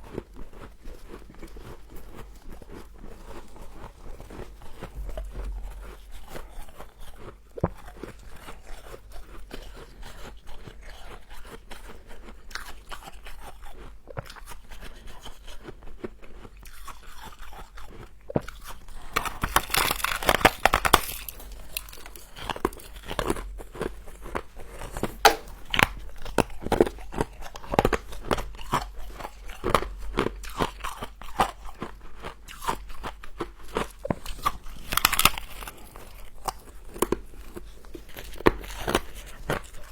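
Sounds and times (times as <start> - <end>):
person chewing crunchy frost: 0.0 - 39.9.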